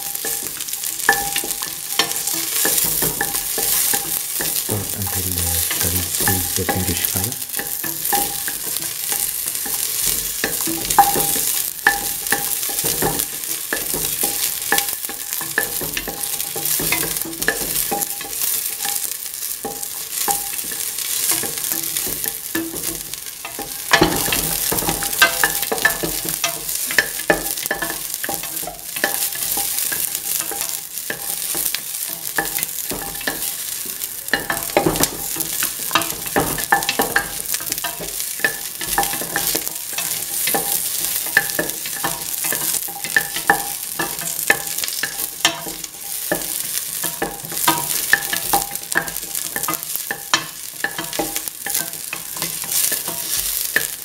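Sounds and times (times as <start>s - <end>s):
shallots sizzling in hot oil: 0.0s - 54.0s.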